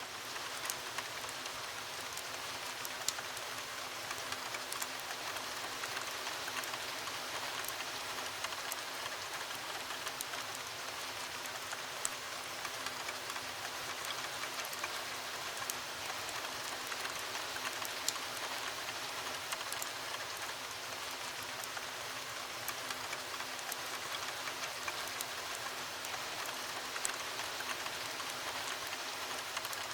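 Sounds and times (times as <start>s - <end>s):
heavy rain against a window: 0.0s - 29.9s
wood fire crackling: 0.1s - 29.9s.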